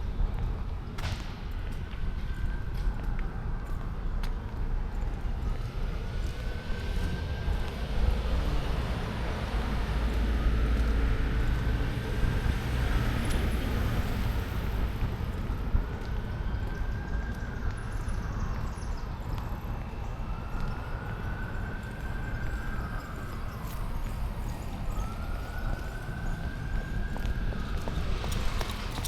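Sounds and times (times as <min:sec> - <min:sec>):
road traffic rumble: 0:00.0 - 0:29.0
distant siren wailing: 0:00.4 - 0:29.0.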